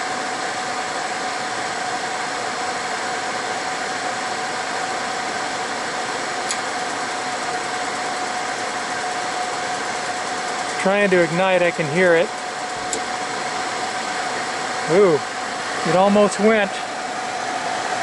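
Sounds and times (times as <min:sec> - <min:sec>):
furnace blower motor humming: 0:00.0 - 0:18.0.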